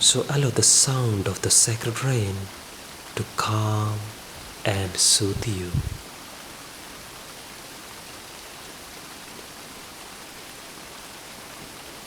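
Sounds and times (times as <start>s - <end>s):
gentle rain hiss: 0.0s - 12.0s.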